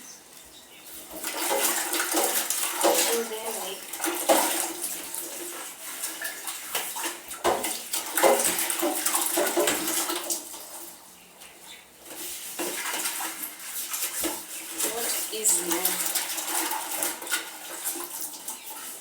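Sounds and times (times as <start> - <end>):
dishes washed in water splashing: 0.7 - 19.0.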